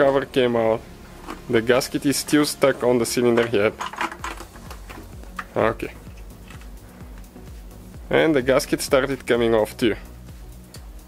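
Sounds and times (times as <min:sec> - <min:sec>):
quiet background music with beat: 0:00.0 - 0:11.0.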